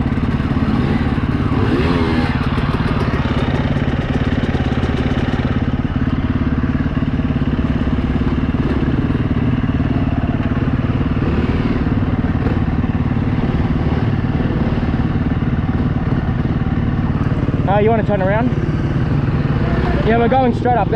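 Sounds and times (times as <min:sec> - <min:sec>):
dirt bike engine running: 0:00.0 - 0:20.9.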